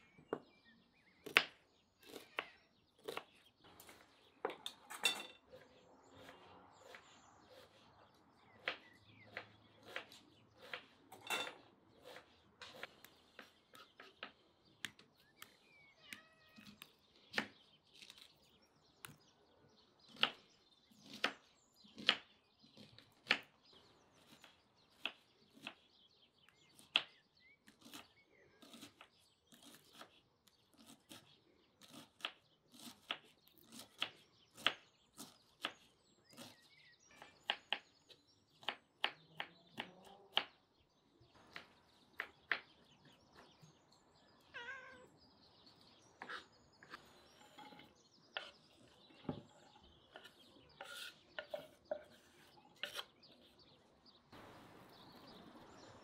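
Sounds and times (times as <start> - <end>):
faint birds chirping: 0.0 - 56.0.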